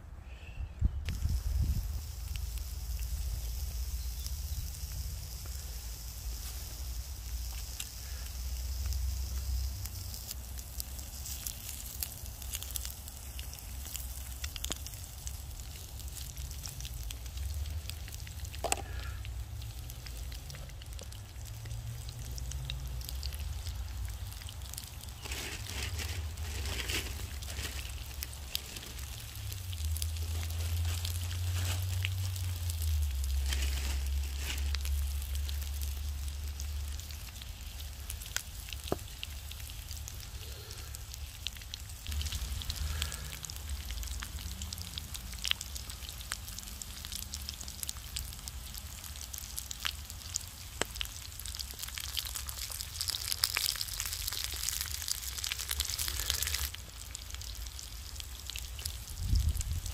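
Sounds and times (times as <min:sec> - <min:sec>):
low steady rumble: 0:00.0 - 0:59.9
wood fire crackling: 0:01.0 - 0:59.9.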